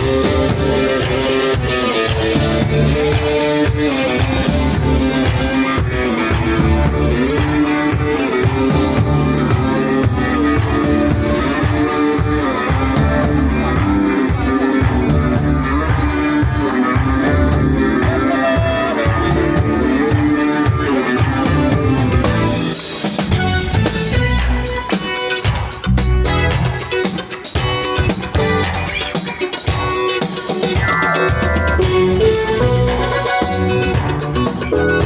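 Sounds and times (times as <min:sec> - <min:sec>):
bass guitar: 0:00.0 - 0:35.0
guitar: 0:00.0 - 0:35.0
steady drum beat: 0:00.0 - 0:35.0.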